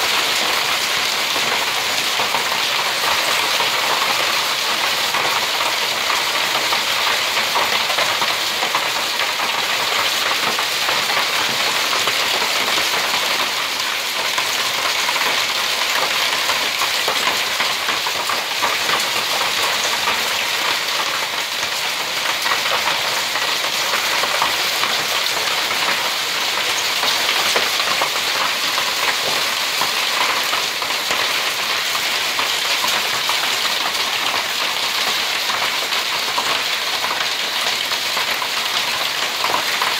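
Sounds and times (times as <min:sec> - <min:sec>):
rain and hail on tile roofs: 0:00.0 - 0:39.9.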